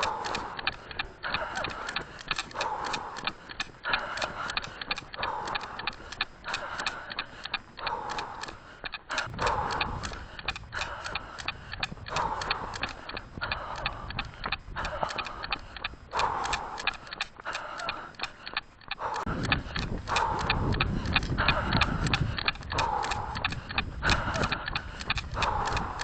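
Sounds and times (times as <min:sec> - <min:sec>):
running footsteps: 0:00.0 - 0:26.0.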